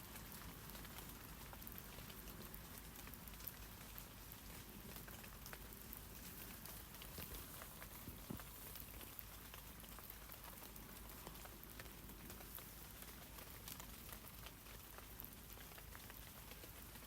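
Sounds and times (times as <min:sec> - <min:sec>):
rain pattering on leaves: 0:00.0 - 0:17.0.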